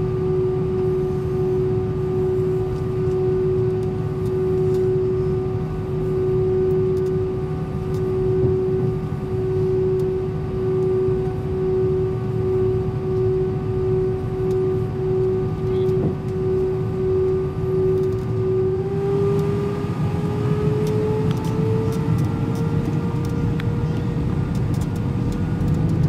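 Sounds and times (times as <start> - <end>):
jet engines idling drone: 0.0 - 26.0.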